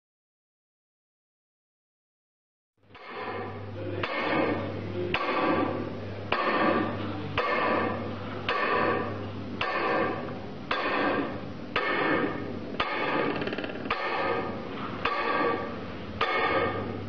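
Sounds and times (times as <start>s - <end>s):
hammer striking metal bar: 2.9s - 17.0s.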